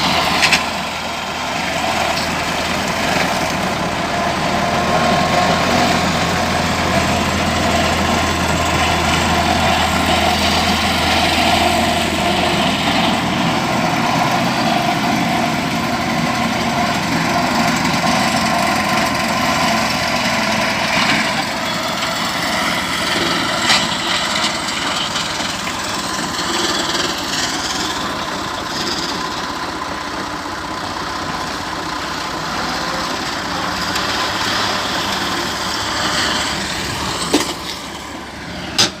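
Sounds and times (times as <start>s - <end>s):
mower engine idling: 0.0s - 39.0s.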